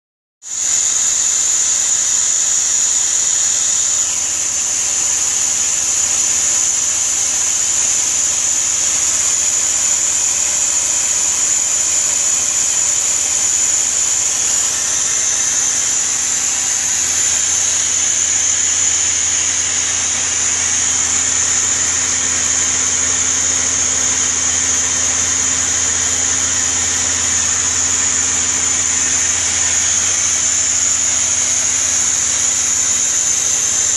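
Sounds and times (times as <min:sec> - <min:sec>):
lathe machining with whine: 0:00.4 - 0:33.9.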